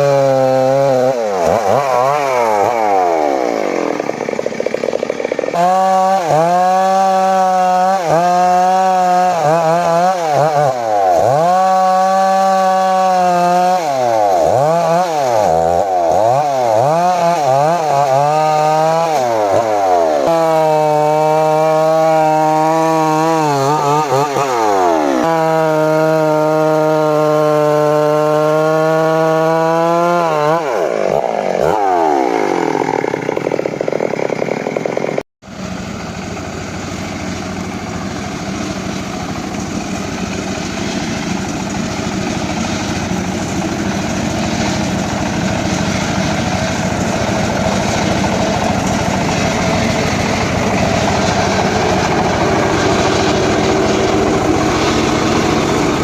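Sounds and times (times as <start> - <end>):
chainsaw revving: 0.0 - 56.0
chainsaw sawing wood: 0.0 - 56.0.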